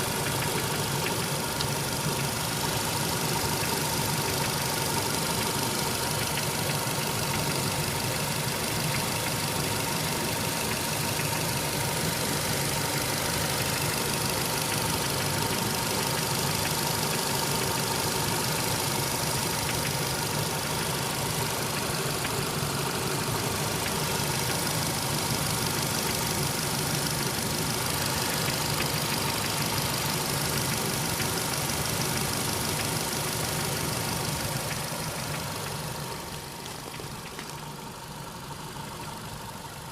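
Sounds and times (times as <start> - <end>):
engine idling with knocking: 0.0 - 39.9.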